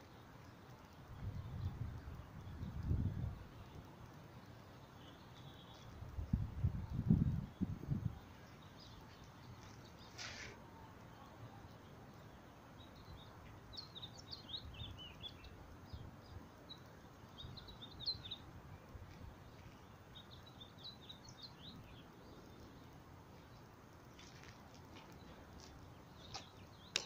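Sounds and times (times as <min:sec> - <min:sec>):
faint bird chirping: 0:00.0 - 0:27.0.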